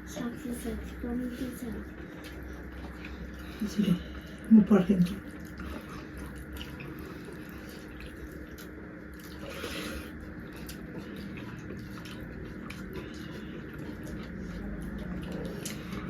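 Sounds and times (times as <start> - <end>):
wet eating sounds: 0.0 - 16.0.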